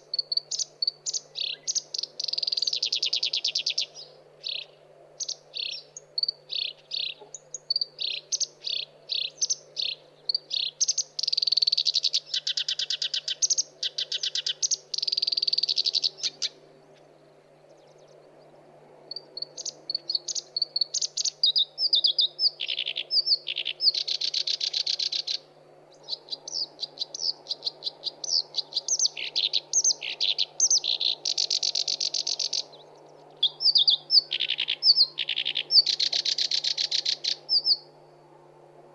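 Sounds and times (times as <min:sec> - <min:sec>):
warbler singing: 0:00.0 - 0:38.4.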